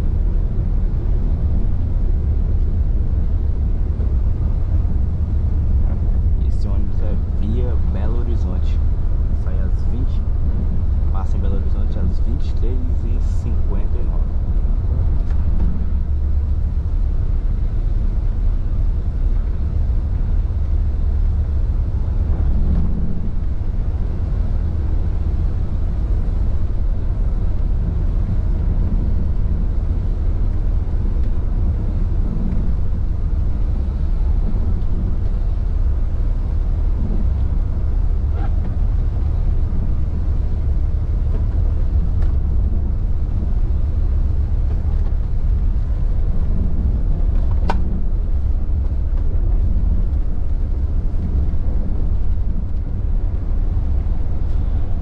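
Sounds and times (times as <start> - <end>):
coach engine and road rumble: 0.0 - 55.0.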